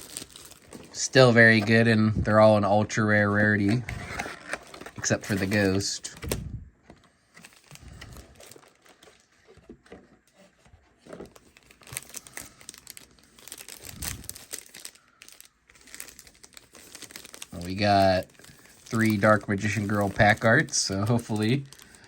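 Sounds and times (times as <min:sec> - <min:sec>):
foil wrappers crinkling: 0:00.0 - 0:01.9, 0:03.4 - 0:06.2, 0:07.4 - 0:09.6, 0:11.0 - 0:22.0.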